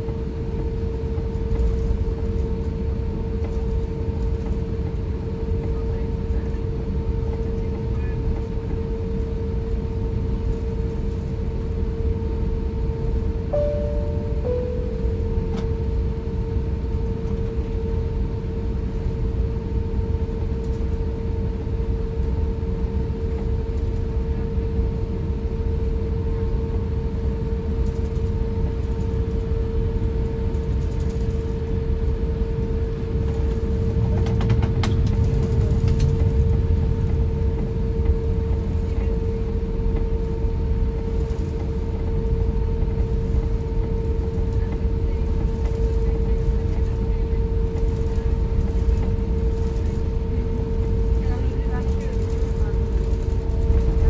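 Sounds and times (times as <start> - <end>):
airliner cabin rumble and hum: 0.0 - 54.0.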